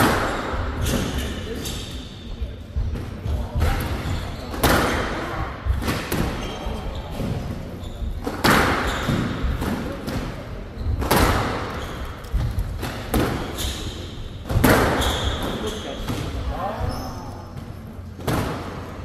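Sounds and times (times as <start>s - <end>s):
squash ball hitting rackets and walls: 0.0s - 19.0s.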